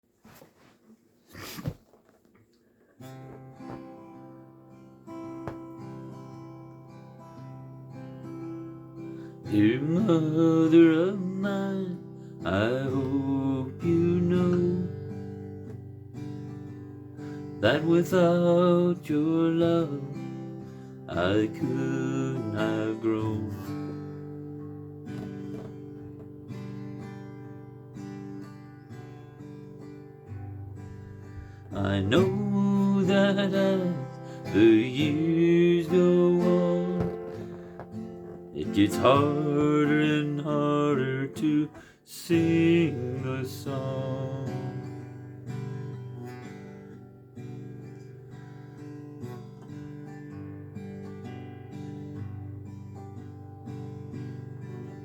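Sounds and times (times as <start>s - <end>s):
acoustic guitar strumming: 3.0s - 55.0s.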